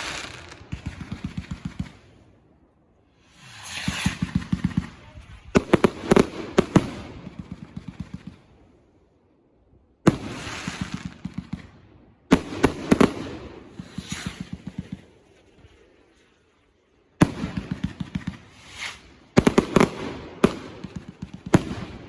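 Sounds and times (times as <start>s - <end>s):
fireworks bangs: 0.0s - 2.1s, 3.2s - 8.4s, 10.0s - 16.2s, 17.2s - 22.0s
fireworks crackling and hissing: 0.0s - 9.0s, 10.0s - 22.0s.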